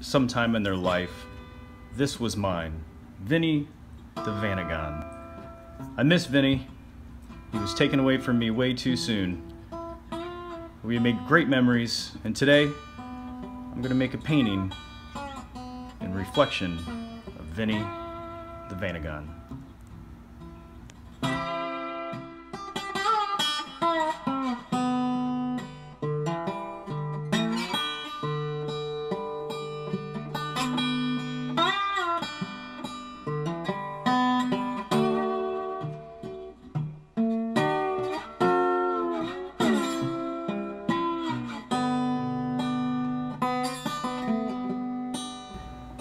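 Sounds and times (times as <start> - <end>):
acoustic guitar instrumental: 0.0 - 46.0.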